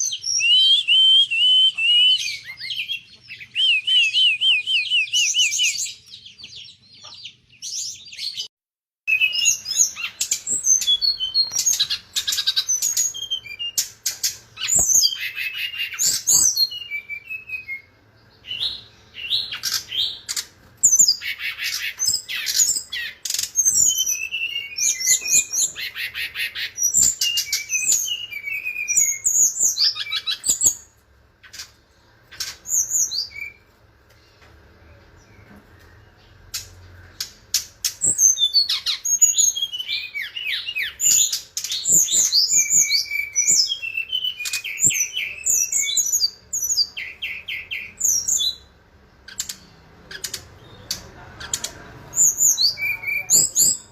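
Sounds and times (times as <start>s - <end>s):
bird singing trills and whistles: 0.0s - 8.5s, 9.1s - 34.4s, 35.2s - 53.9s.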